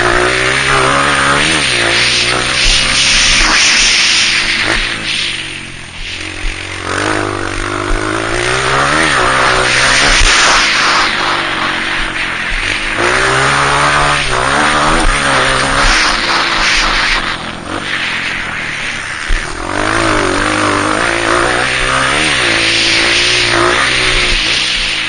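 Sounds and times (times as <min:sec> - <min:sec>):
dirt bike engine revving: 0:00.0 - 0:25.0
loud steady hiss: 0:00.0 - 0:25.0.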